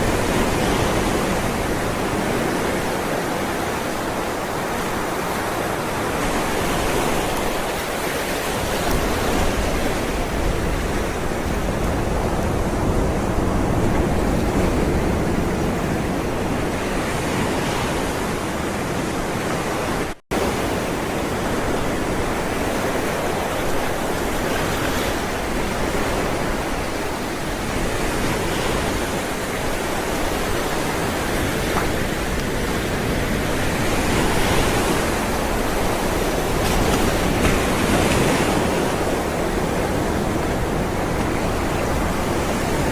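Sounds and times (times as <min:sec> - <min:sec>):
ocean waves washing up: 0:00.0 - 0:42.9.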